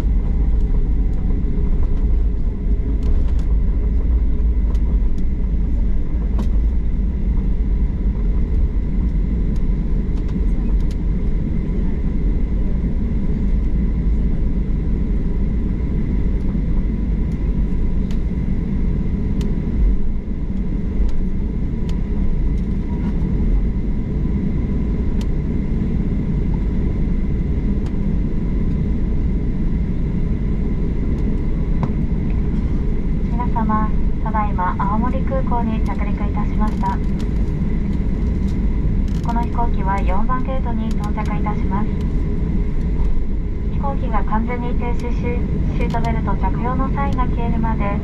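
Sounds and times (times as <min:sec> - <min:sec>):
airliner cabin rumble: 0:00.0 - 0:48.0
faint steady whine: 0:00.0 - 0:48.0.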